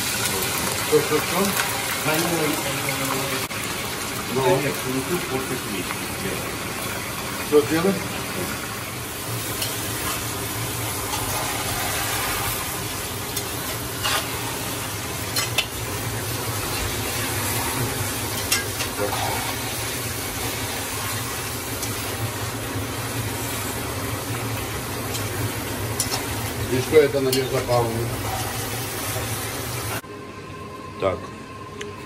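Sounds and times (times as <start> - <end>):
meat sizzling in hot oil: 0.0 - 30.0.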